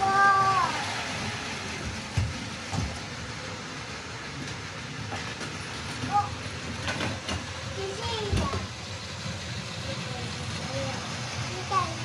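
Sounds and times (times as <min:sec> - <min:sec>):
toy train running on track: 0:00.0 - 0:12.0.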